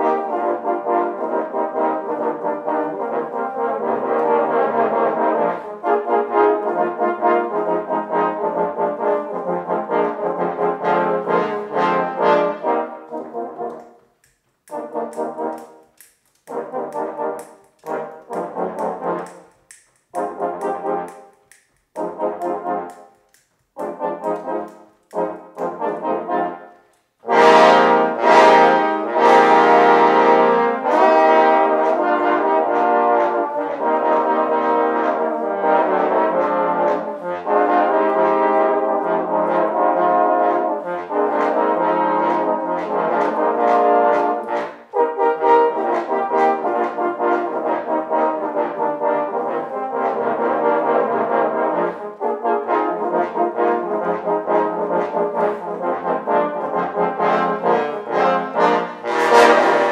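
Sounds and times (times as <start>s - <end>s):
trombone ensemble playing chords: 0.0s - 13.9s, 14.6s - 15.9s, 16.5s - 21.3s, 22.0s - 59.9s.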